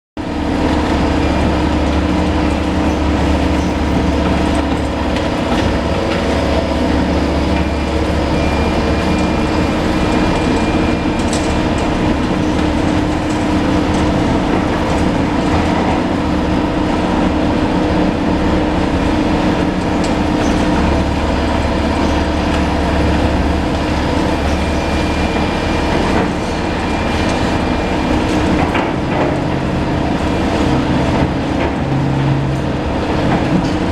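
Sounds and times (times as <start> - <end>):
heavy machinery engine drone: 0.2 - 33.9.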